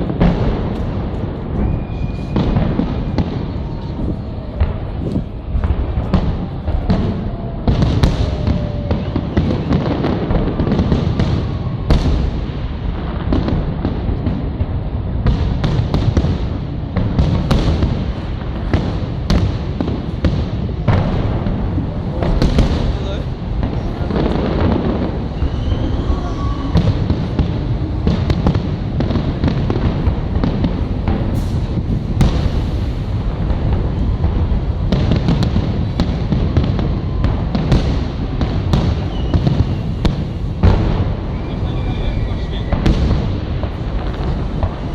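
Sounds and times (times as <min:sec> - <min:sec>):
fireworks bangs: 0:00.0 - 0:44.9
low rumble of bursting shells: 0:00.0 - 0:44.9.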